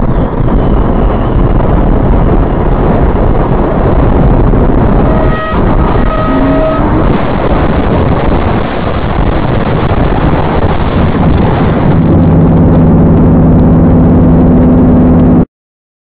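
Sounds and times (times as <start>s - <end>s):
steady low drone: 0.0s - 15.4s.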